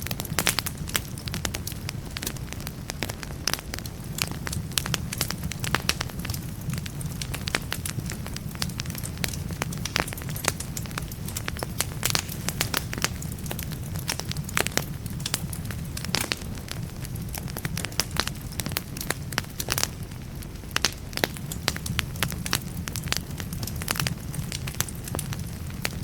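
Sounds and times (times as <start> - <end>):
firewood crackling and popping: 0.0 - 26.0.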